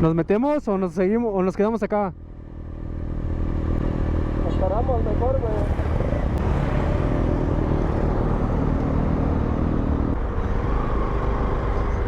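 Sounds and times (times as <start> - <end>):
road and wind noise: 0.0 - 12.0
motorcycle engine rumble: 2.2 - 12.0.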